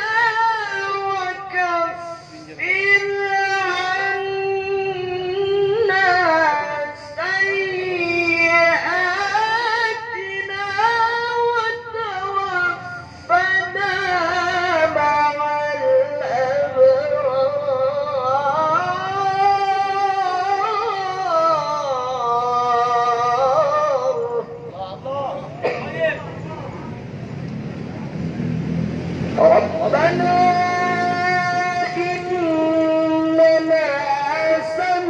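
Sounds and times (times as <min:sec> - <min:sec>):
man reciting melodically into microphone: 0:00.0 - 0:26.4, 0:29.3 - 0:35.0.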